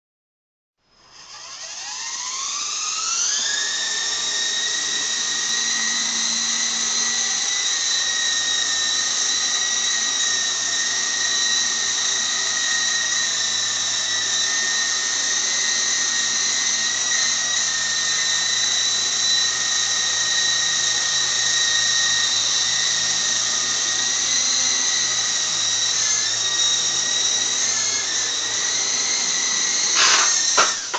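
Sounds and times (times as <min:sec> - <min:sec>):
rc helicopter whine: 0:00.9 - 0:30.9.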